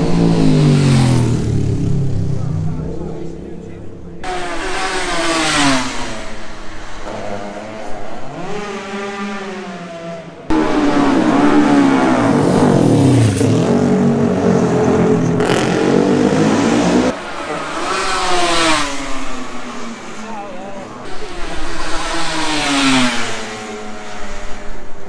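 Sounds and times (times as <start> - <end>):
approaching motorcycle engine: 0.0 - 25.0
racing motorcycle revving: 0.0 - 25.0
motorcycle passing by: 4.2 - 25.0.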